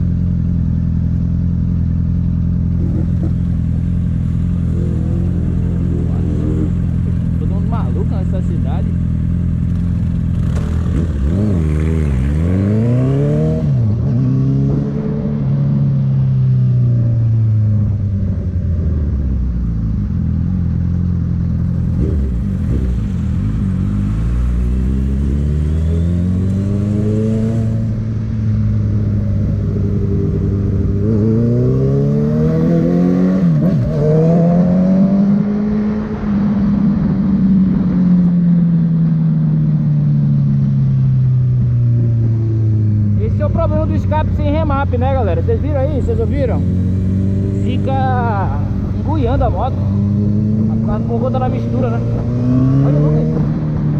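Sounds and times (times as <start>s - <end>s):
motorcycle engine revving: 0.0s - 39.2s, 40.2s - 53.9s.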